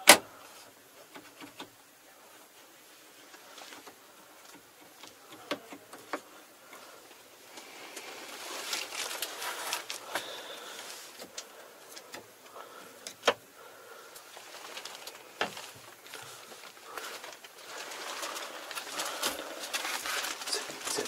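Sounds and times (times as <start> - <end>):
soft handling rustle: 0.4 - 21.0.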